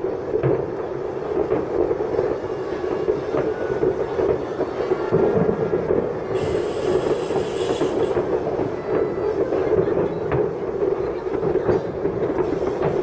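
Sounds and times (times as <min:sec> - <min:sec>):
distant fireworks rumble and crackle: 0:00.0 - 0:13.0
firework bangs: 0:00.0 - 0:13.0
heavy firework boom: 0:00.0 - 0:13.0.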